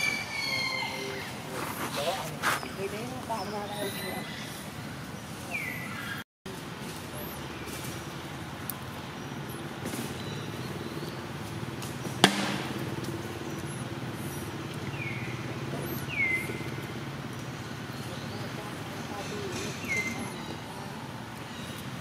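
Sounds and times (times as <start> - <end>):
low hum of distant engine: 0.0 - 22.0.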